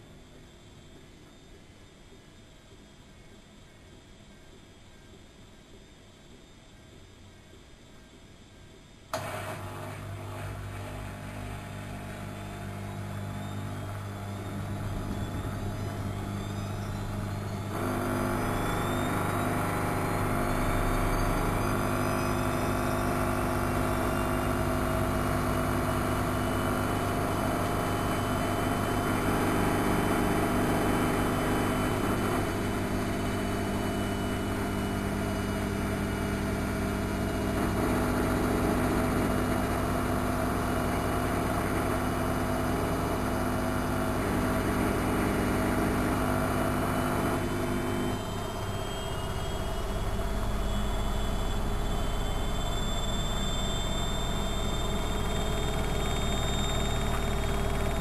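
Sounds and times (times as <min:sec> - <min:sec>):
washing machine motor spinning up: 0:09.1 - 0:58.0.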